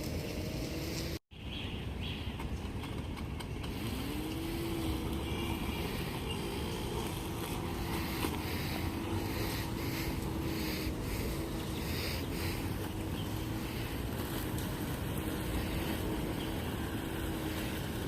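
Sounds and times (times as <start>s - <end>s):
robotic lawn mower cutting grass: 0.0s - 1.2s, 3.6s - 18.0s.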